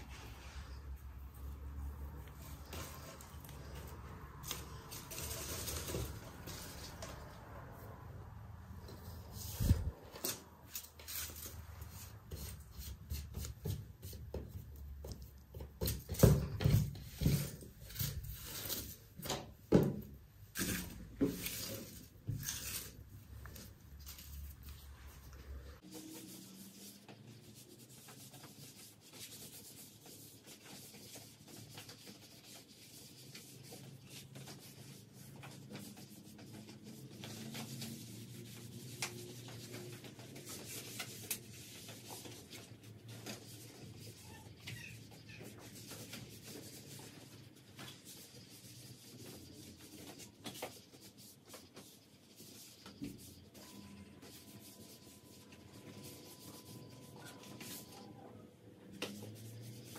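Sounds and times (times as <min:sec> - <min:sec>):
hand rubbing and scraping: 0:00.0 - 0:58.2.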